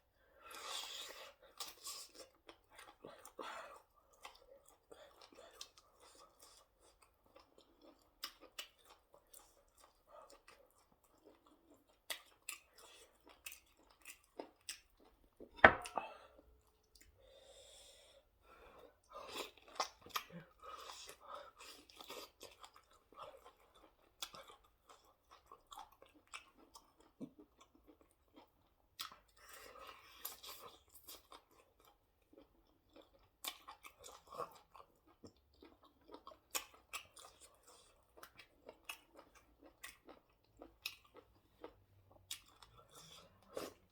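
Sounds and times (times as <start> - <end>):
person chewing food: 0.3 - 43.9.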